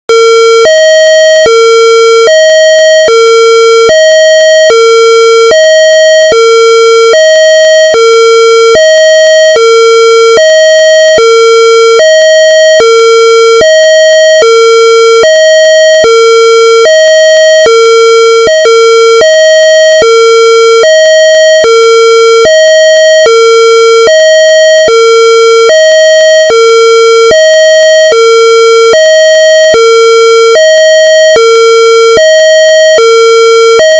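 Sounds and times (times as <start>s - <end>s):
two-tone police siren: 0.1s - 33.9s.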